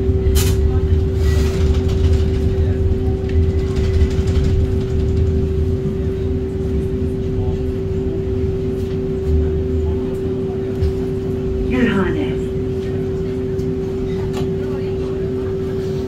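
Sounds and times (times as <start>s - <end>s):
low rumble: 0.0s - 14.1s
tram electrical hum: 0.0s - 16.0s.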